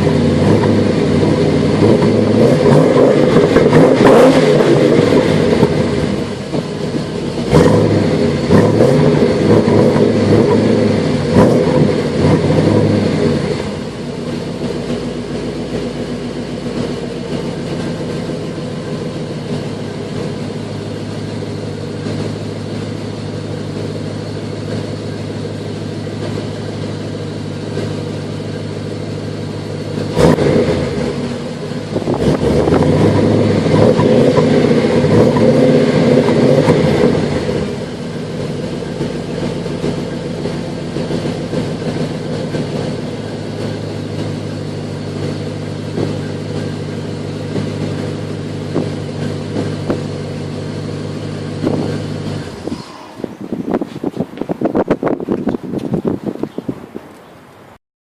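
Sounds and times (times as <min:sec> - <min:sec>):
car engine idling and revving: 0:00.0 - 0:57.8.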